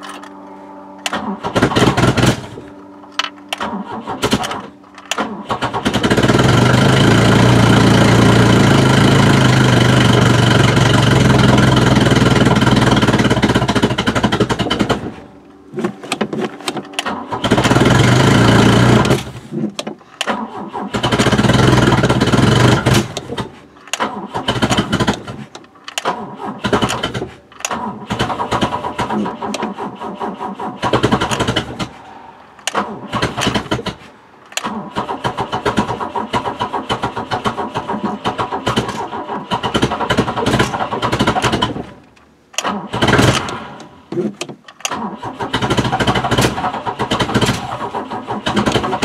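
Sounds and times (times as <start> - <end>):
car engine cranking and starting: 0.0 - 49.0.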